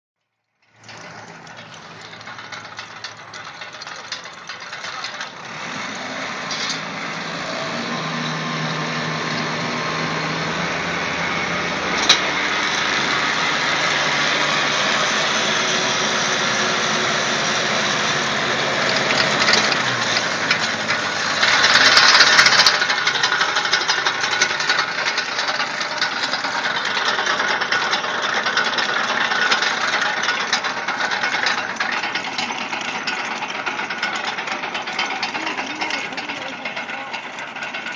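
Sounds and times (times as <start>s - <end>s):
auger mechanical rattle: 0.4s - 37.9s
tractor engine running: 0.5s - 37.9s.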